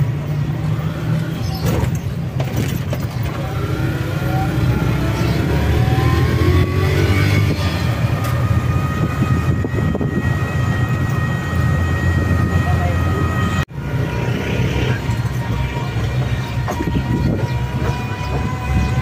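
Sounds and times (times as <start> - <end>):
road and wind rumble: 0.0 - 19.0.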